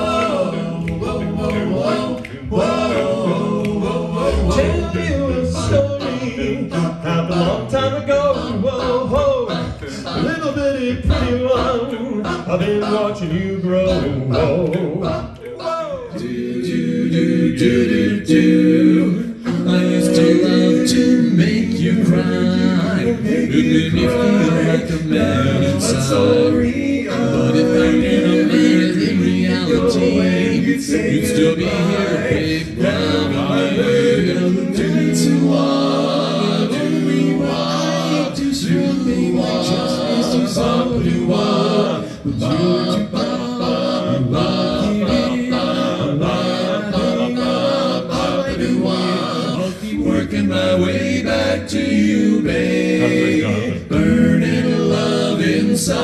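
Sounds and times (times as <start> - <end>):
male group singing in harmony: 0.0 - 56.0.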